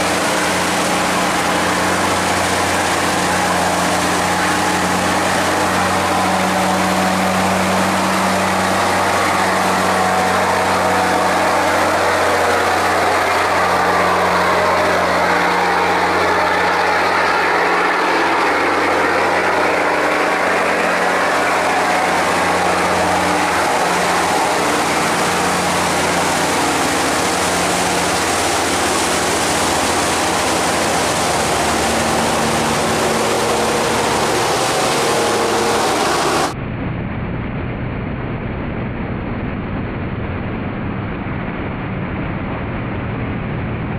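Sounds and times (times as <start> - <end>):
boat engines running: 0.0 - 36.6
white water rushing: 0.0 - 36.6.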